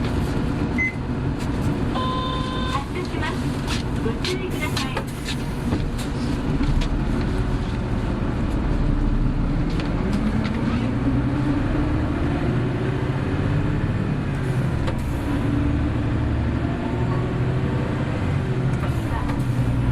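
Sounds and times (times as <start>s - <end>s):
bus engine accelerating: 0.0s - 19.9s
road noise: 0.0s - 19.9s.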